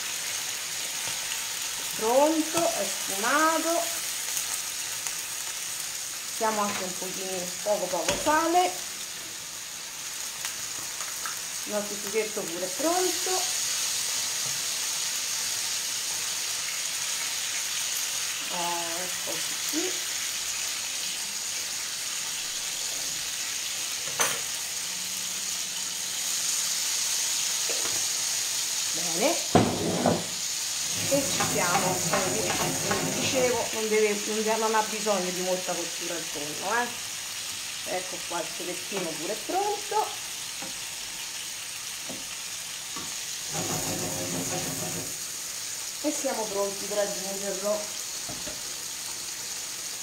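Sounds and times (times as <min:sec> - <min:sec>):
fish sizzling in a frying pan: 0:00.0 - 0:50.0.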